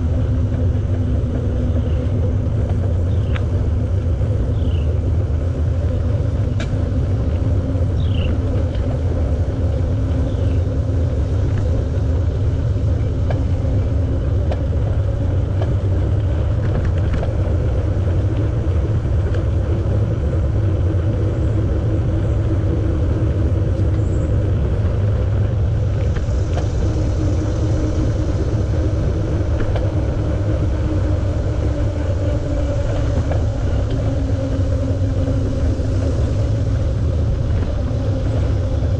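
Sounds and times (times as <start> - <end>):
bicycle tyres rolling: 0.0 - 38.9
faint steady hum: 0.0 - 38.9
wind on microphone: 0.0 - 38.9.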